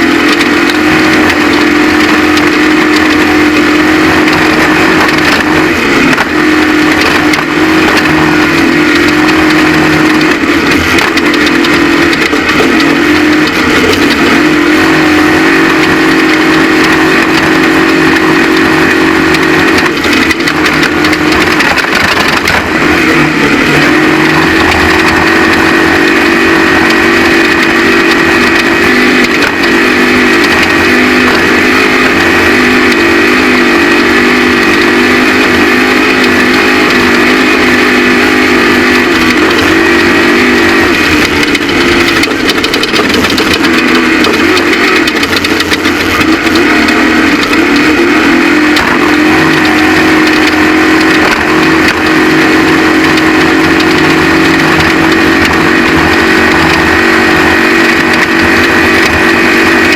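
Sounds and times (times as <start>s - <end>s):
truck engine at high revs: 0.0s - 59.9s.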